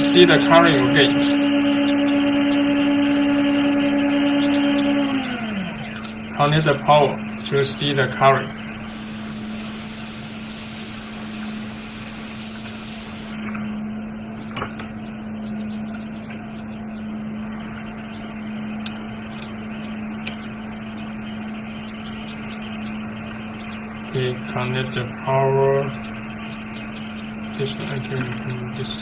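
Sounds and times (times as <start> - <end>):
small electric motor humming: 0.0 - 29.0.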